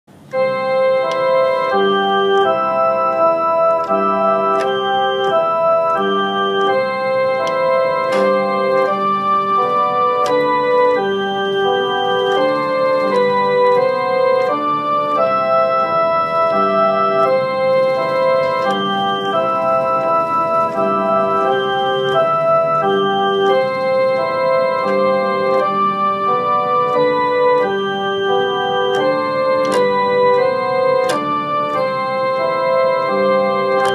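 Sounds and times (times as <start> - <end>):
organ playing sustained chords: 0.1 - 33.9.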